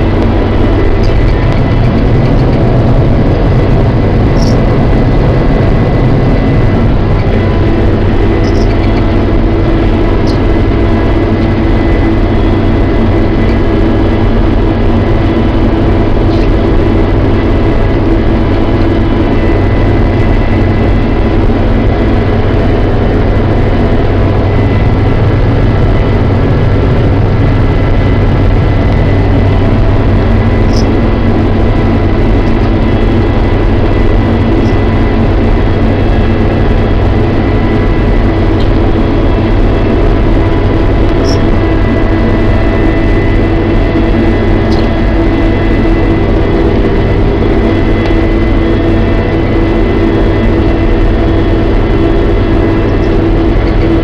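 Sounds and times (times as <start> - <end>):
combine harvester engine drone: 0.0 - 54.0
machinery high whine: 0.0 - 54.0.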